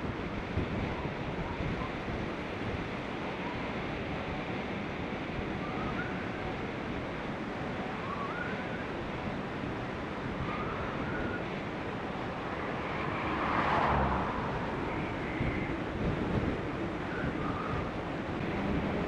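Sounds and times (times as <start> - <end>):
wind rushing over microphone: 0.0 - 7.3, 8.3 - 19.0.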